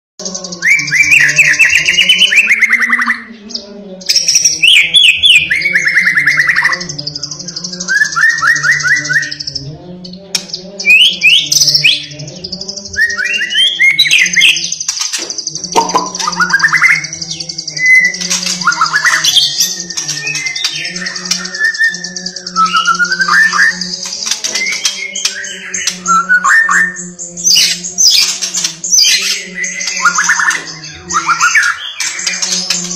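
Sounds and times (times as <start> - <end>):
bird singing trills and whistles: 0.2 - 32.9.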